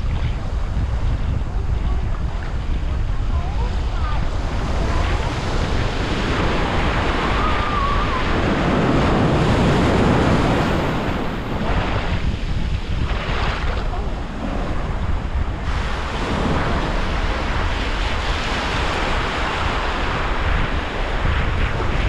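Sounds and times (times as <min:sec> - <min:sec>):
surf breaking on beach: 0:00.0 - 0:22.0
wind rumbling on microphone: 0:00.0 - 0:22.0.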